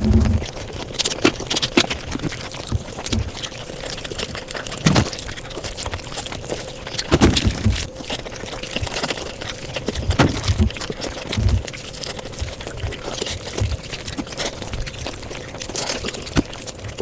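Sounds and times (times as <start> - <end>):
sped up chewing and crunching: 0.0 - 17.0.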